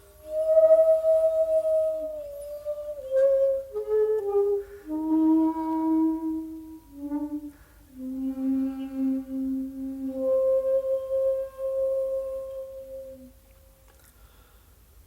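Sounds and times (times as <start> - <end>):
bamboo flute playing long notes: 0.0 - 13.4.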